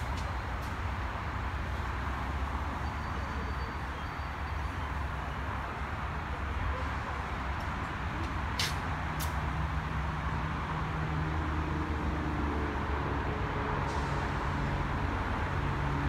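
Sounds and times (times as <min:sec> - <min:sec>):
diesel train engine hum: 0:00.0 - 0:16.0.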